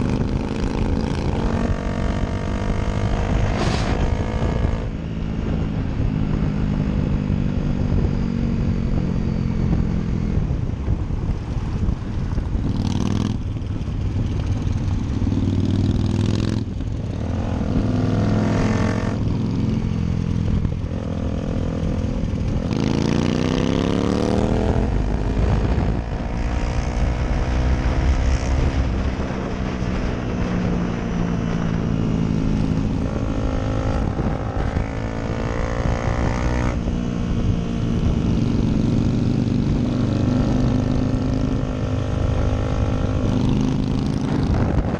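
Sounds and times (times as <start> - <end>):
motorcycle engine revving: 0.0 - 7.1, 12.6 - 44.9
wind noise: 0.0 - 44.9.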